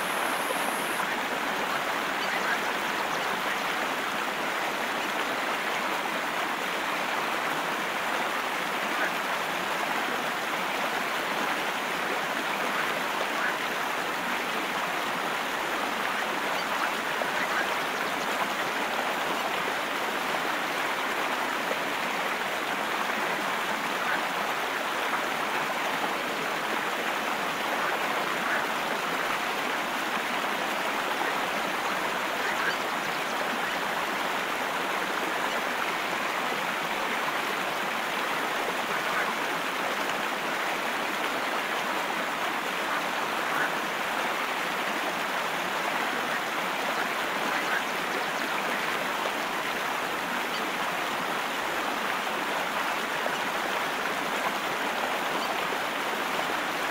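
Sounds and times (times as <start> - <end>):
running water rushing: 0.0 - 56.9.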